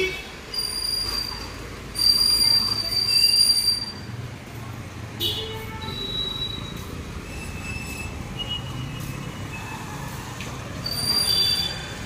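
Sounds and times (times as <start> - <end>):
motorbikes and vehicles running: 0.0 - 12.0.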